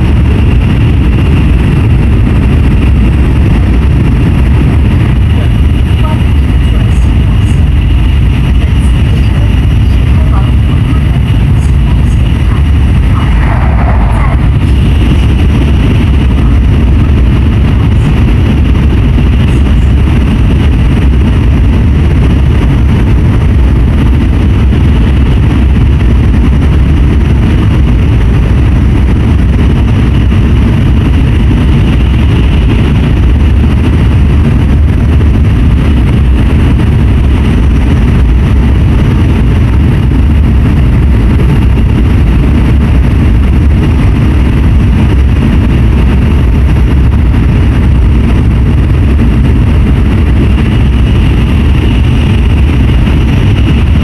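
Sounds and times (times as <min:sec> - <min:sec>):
high-speed train running: 0:00.0 - 0:54.0.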